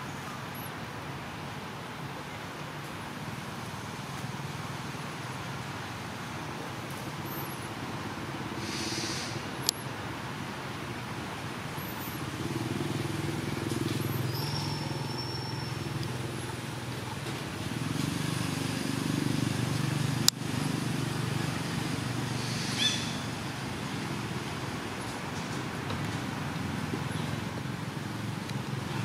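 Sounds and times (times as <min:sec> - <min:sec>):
engine humming: 0:00.0 - 0:29.0.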